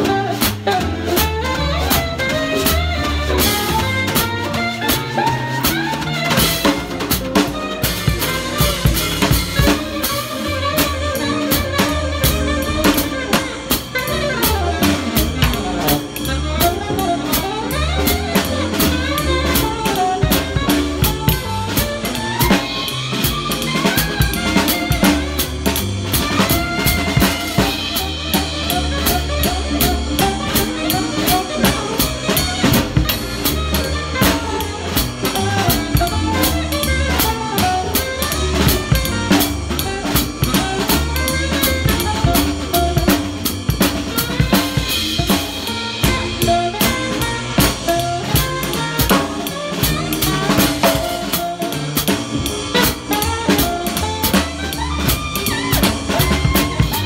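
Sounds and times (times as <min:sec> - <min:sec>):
jazz band melody: 0:00.0 - 0:57.0
snare and cymbal strokes: 0:00.0 - 0:57.0
upright bass: 0:00.0 - 0:57.0.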